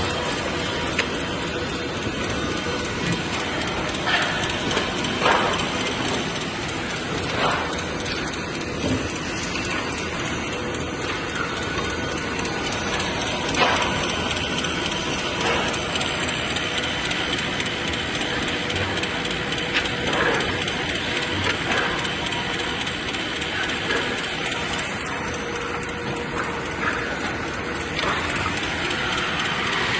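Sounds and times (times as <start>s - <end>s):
faint machine whine: 0.0s - 29.9s
saw machine running: 0.0s - 29.9s
sharp knocks and clatters: 0.0s - 29.9s.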